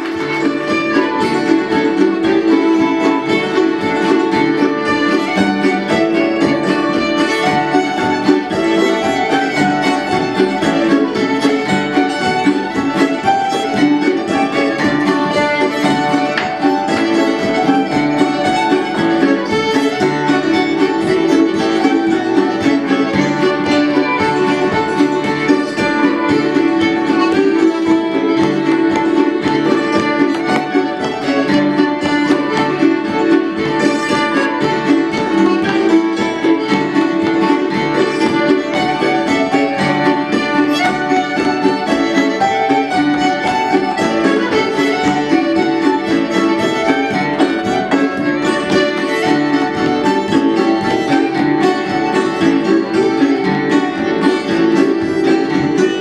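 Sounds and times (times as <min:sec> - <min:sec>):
accordion: 0:00.0 - 0:56.0
acoustic guitar: 0:00.0 - 0:56.0
fiddle: 0:00.0 - 0:56.0
hammered dulcimer: 0:00.0 - 0:56.0
mandolin: 0:00.0 - 0:56.0.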